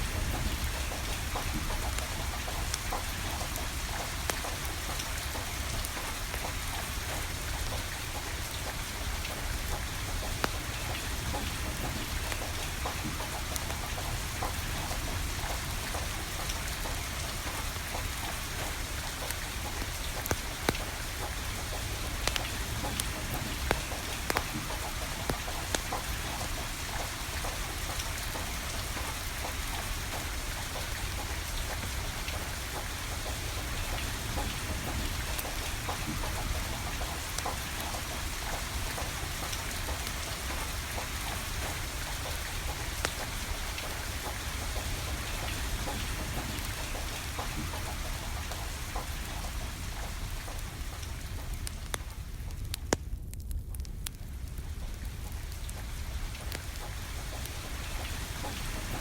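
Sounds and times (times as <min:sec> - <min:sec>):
rain falling: 0:00.0 - 0:59.0
wood fire crackling: 0:00.0 - 0:59.0.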